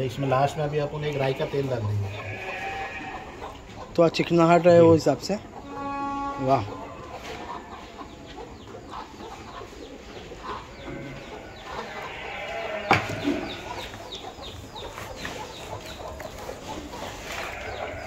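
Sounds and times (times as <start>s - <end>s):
birds chirping and clucking: 0.0s - 18.0s.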